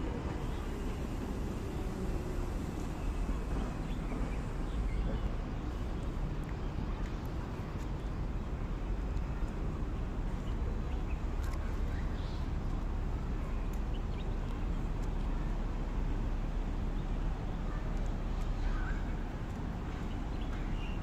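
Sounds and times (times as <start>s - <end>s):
steady low city rumble: 0.0s - 21.0s.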